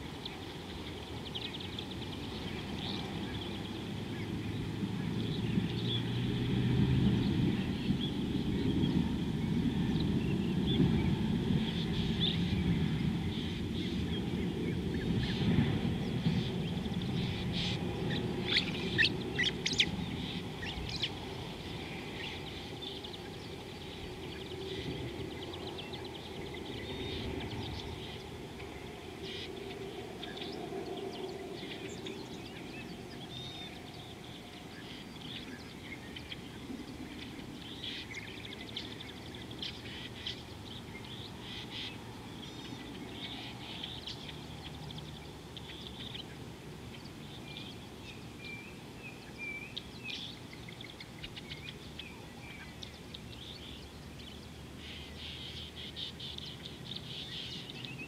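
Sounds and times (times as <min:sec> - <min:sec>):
steady low background noise: 0:00.0 - 0:58.0
birds chirping and calling: 0:07.2 - 0:58.0.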